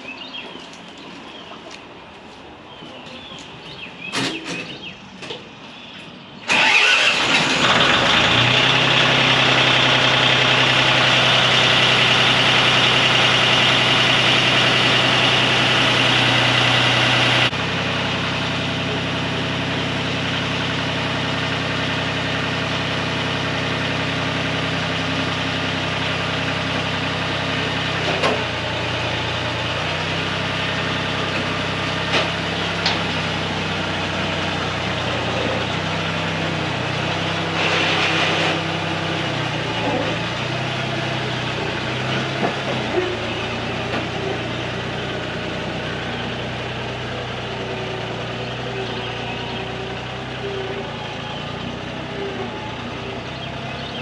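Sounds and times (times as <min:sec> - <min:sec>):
tractor engine starting and idling: 0:06.4 - 0:54.0.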